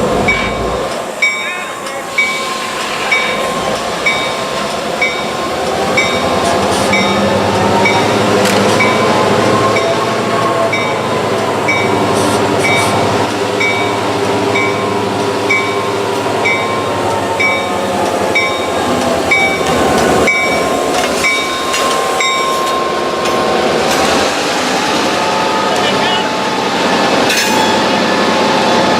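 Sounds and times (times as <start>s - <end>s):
train wheels rumbling on rails: 0.0s - 28.9s
crossing bell dinging: 0.1s - 23.5s.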